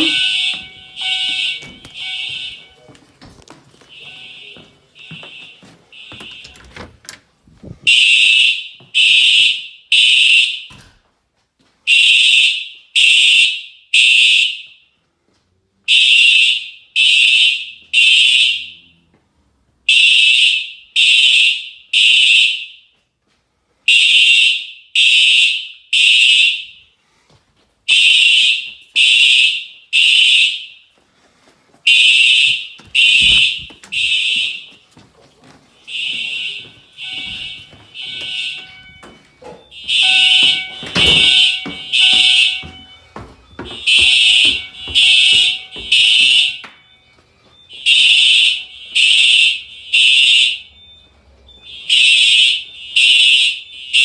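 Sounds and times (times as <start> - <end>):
fire alarm horn blasts: 0.0 - 3.0, 3.8 - 6.8, 7.8 - 10.7, 11.9 - 14.9, 15.9 - 19.0, 19.9 - 23.0, 23.9 - 27.0, 27.9 - 31.0, 31.9 - 34.8, 35.7 - 54.0.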